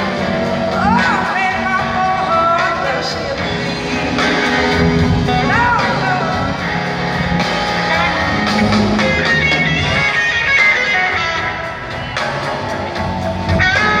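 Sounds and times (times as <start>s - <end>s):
blues band playing: 0.0s - 14.0s
electric guitar lead lines: 0.0s - 14.0s.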